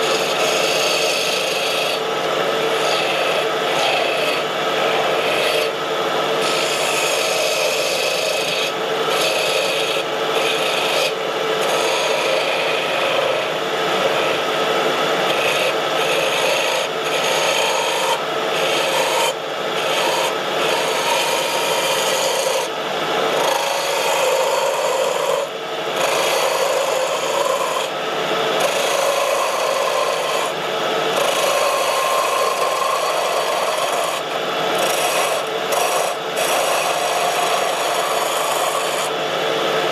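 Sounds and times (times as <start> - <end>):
faint machine hum: 0.0 - 39.9
wood lathe scraping hiss: 0.0 - 39.9.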